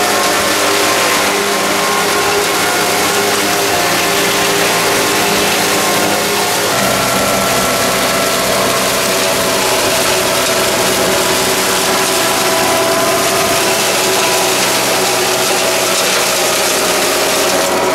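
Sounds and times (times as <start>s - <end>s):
hedge cutter working: 0.0s - 17.9s
machine engine and hydraulics: 0.0s - 17.9s.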